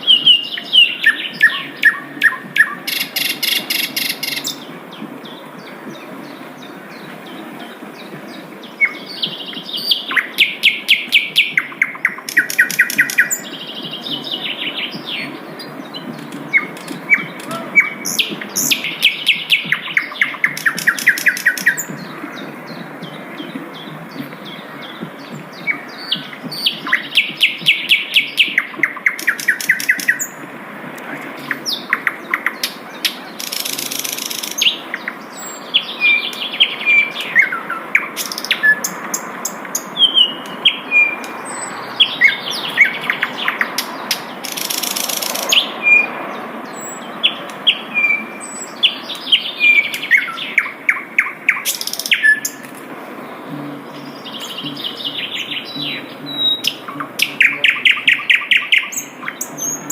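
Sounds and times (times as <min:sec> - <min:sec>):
flycatcher singing: 0:00.0 - 0:30.4, 0:31.4 - 0:59.9
harsh rasping bird calls: 0:00.0 - 0:59.9.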